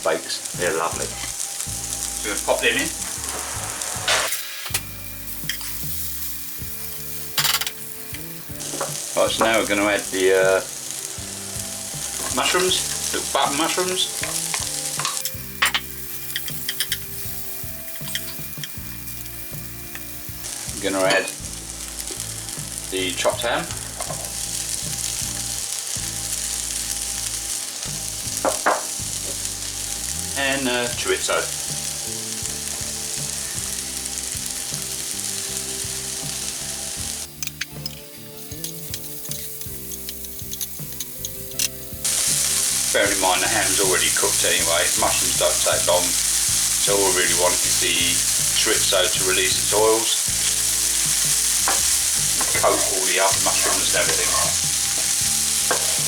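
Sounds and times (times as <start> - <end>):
vegetables sizzling in a frying pan: 0.0 - 56.0.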